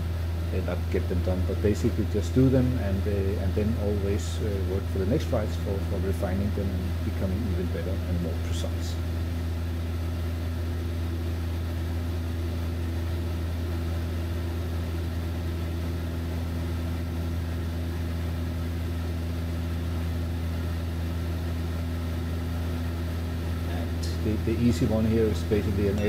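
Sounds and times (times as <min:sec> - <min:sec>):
aircraft engine droning: 0:00.0 - 0:26.0.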